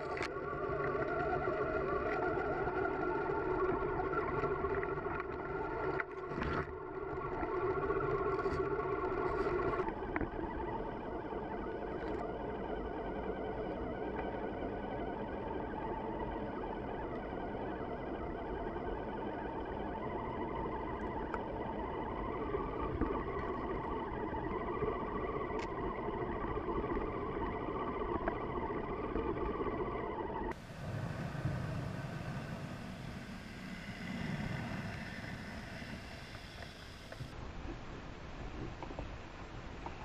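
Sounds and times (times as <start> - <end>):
electric motor and gear whine: 0.0 - 37.8.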